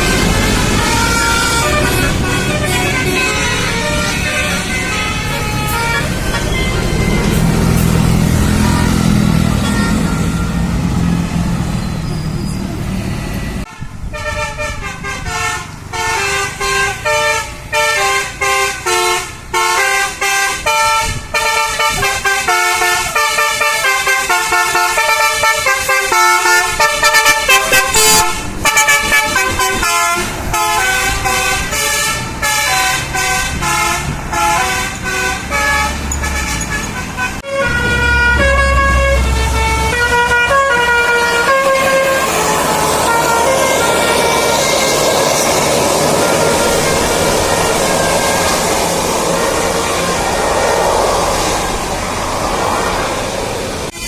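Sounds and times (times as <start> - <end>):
multi-tone air horn tune: 0.0 - 10.5, 13.6 - 51.8
bus engine running: 0.0 - 54.0.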